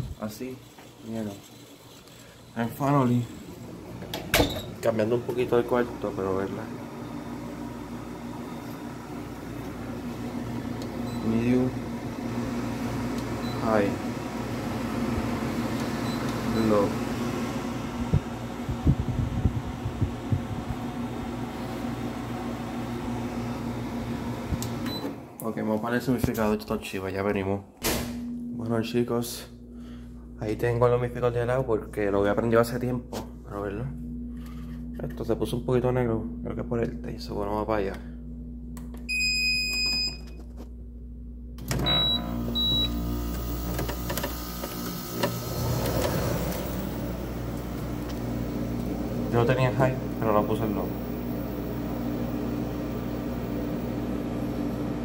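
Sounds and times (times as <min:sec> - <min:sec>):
dehumidifier fan and motor hum: 0:00.0 - 0:55.0.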